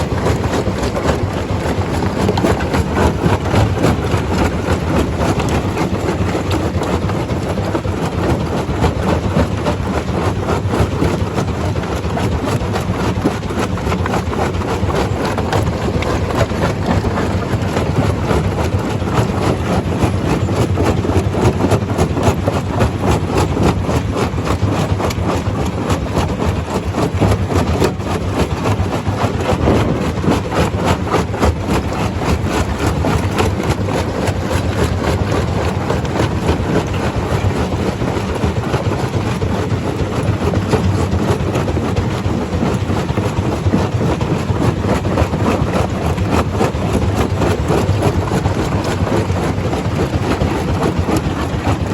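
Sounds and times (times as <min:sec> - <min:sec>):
stone crusher rumbling and rattling: 0:00.0 - 0:51.9.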